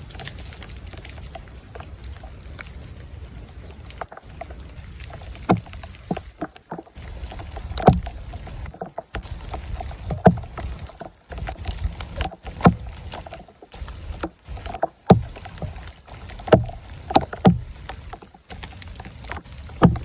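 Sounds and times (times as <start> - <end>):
light water splashes: 0.0 - 20.0
paddle strokes in water: 0.0 - 20.0.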